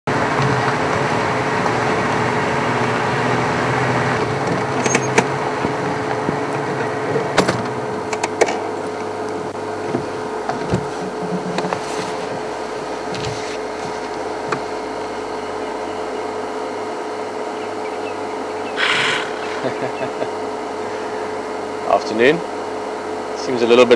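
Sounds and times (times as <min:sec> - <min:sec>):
vehicle engine idling: 0:00.1 - 0:23.9.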